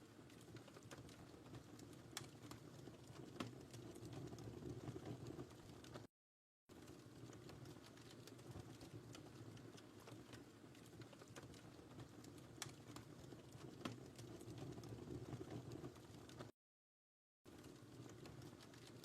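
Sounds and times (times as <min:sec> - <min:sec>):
wood fire crackling: 0:00.0 - 0:06.1, 0:06.7 - 0:16.6, 0:17.5 - 0:19.0.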